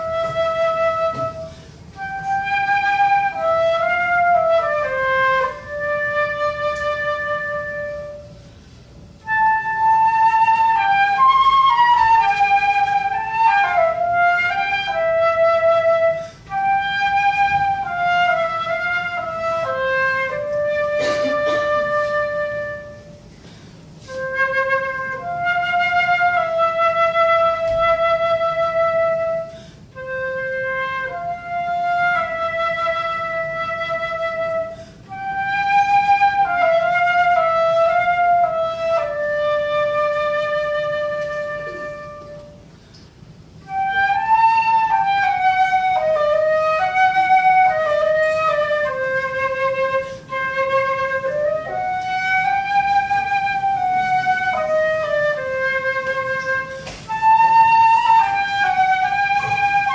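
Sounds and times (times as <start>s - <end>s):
solo flute melody: 0.0s - 59.9s.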